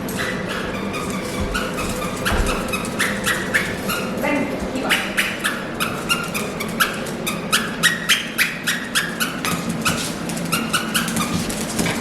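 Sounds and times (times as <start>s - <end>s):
squeaky toy squeaking: 0.2s - 4.2s, 4.8s - 11.4s.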